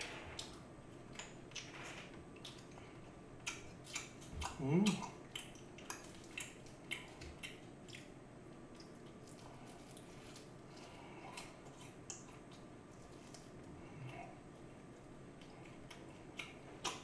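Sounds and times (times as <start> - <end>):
wet chewing: 0.3 - 17.0.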